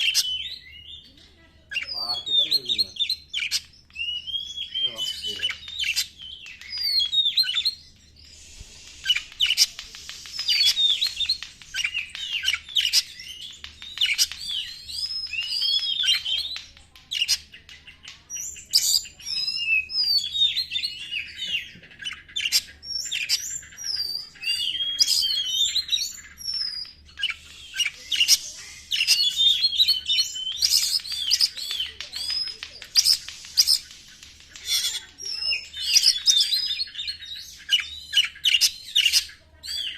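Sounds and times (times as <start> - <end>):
bird singing fast varied song: 0.0 - 39.9.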